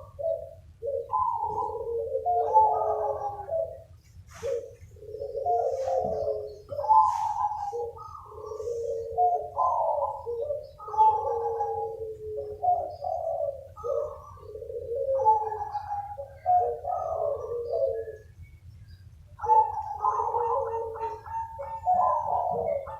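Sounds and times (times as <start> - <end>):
doves cooing: 0.0 - 22.9
higher bird chirps: 0.0 - 22.9.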